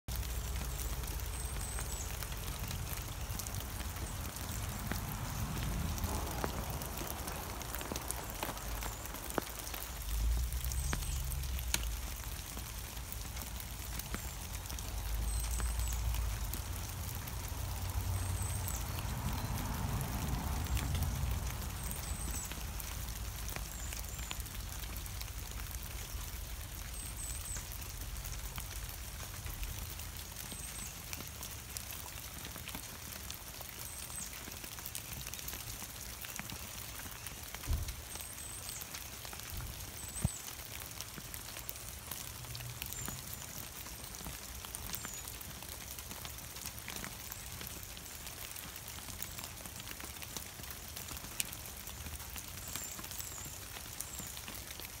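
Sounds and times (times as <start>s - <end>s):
falling ice and drips: 0.1s - 55.0s.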